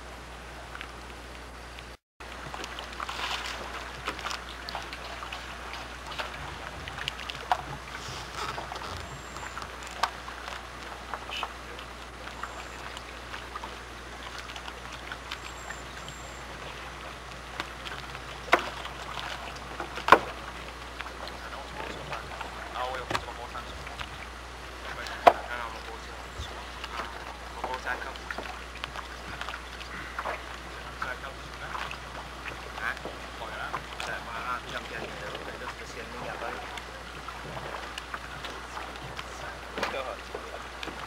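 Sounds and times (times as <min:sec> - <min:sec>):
steady low hum: 0:00.0 - 0:41.0
water lapping: 0:00.0 - 0:41.0.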